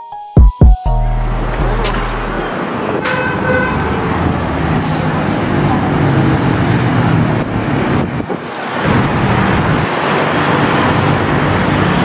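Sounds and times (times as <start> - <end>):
cars and motorcycles passing: 1.1 - 12.0.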